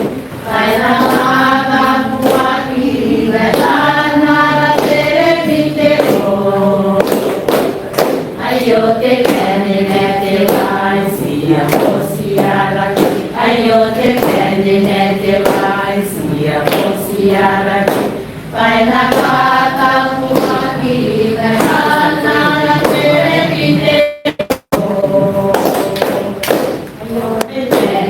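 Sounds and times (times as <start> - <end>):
sharp percussive strikes: 0.0 - 17.1, 17.7 - 20.8, 21.4 - 23.4, 24.2 - 28.0
choir singing a hymn: 0.0 - 28.0.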